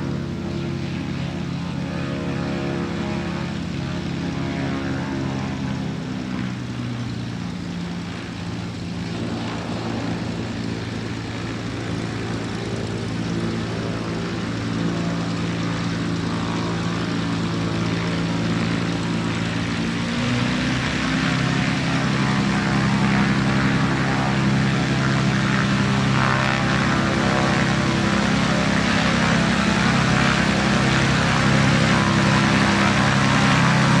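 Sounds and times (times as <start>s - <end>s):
quad bike engines running: 0.0s - 34.0s.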